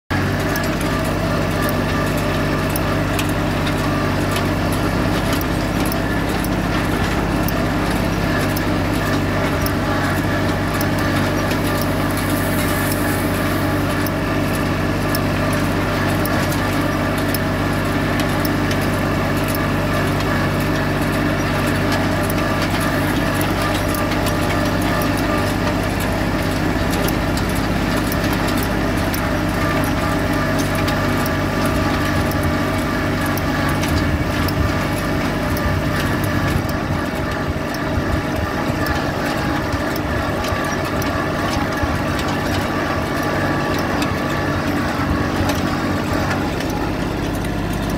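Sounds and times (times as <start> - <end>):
tractor engine running: 0.1 - 47.9.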